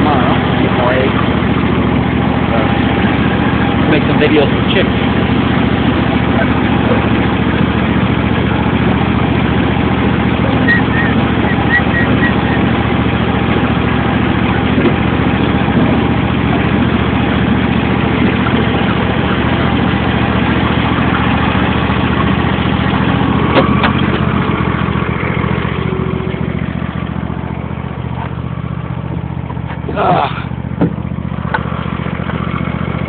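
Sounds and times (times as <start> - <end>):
lawn tractor engine running: 0.0 - 33.0.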